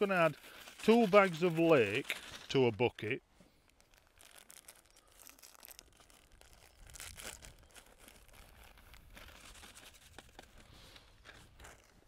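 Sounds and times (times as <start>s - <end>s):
foil bags crinkling: 0.0s - 12.0s.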